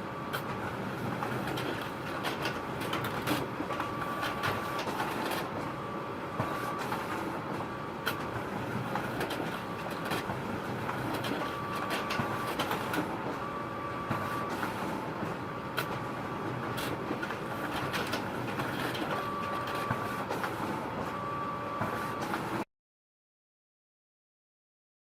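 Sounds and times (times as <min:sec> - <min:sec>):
photocopier whirring: 0:00.1 - 0:22.7.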